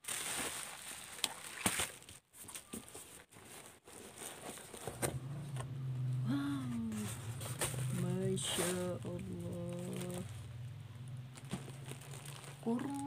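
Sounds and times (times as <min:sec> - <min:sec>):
cardboard box rustling and crinkling: 0:00.0 - 0:05.2, 0:06.8 - 0:10.5, 0:11.3 - 0:13.0.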